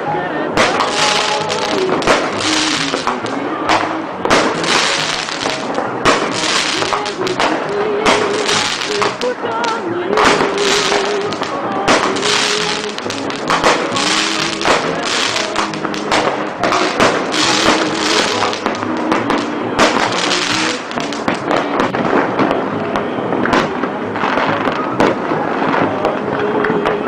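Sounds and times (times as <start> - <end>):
music playing: 0.0 - 27.0
fireworks bangs: 0.6 - 26.2
fireworks crackling: 0.6 - 27.0.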